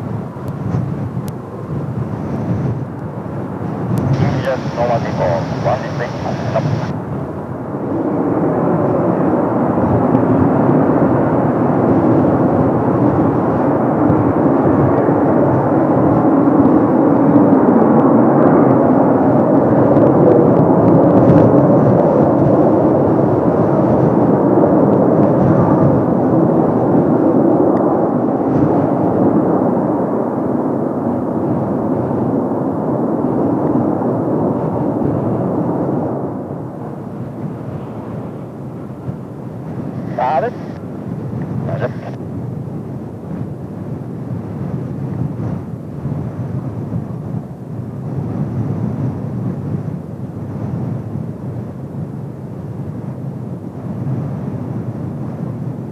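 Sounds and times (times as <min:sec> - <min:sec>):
jet engines rumbling on takeoff: 0:00.0 - 0:55.9.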